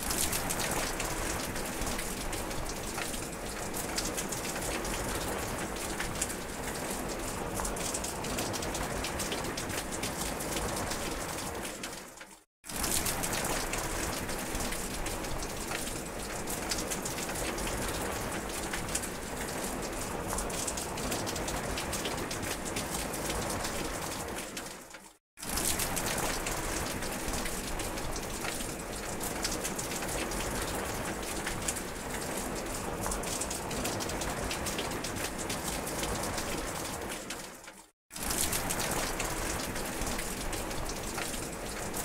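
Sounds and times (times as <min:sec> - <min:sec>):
steady rain hiss: 0:00.0 - 0:42.0.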